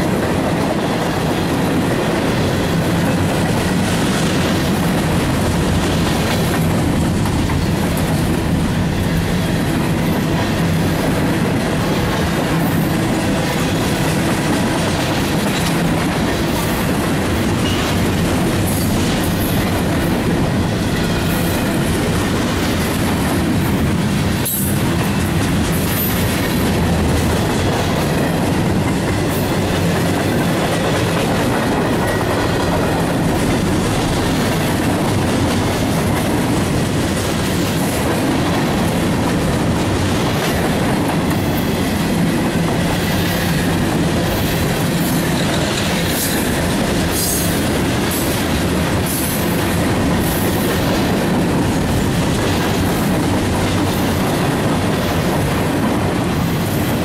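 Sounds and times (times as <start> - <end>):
train wheels rumbling and clattering: 0.0 - 57.0.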